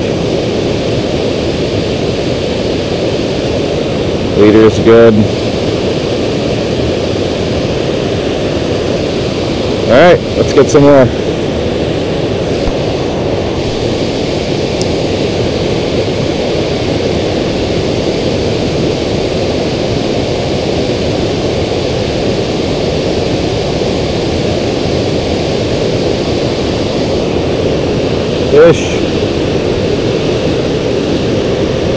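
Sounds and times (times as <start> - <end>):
water roaring over spillway: 0.0 - 31.9.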